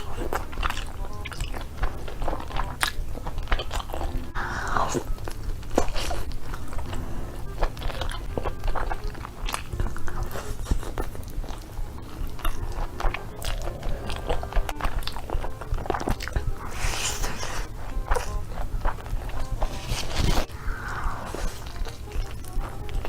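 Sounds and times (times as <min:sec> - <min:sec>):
chewing and crunching chicken: 0:00.0 - 0:23.0
tearing crunch: 0:00.0 - 0:23.0.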